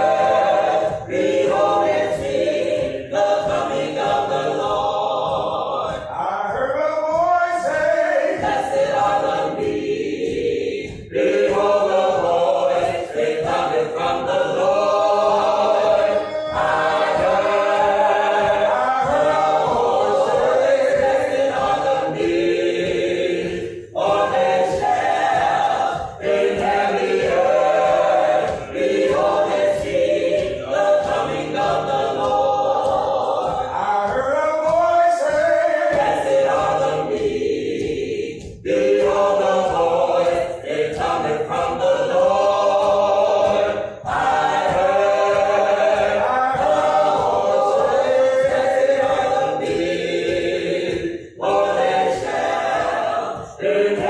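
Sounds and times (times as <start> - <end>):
choir singing a cappella gospel: 0.0 - 54.0.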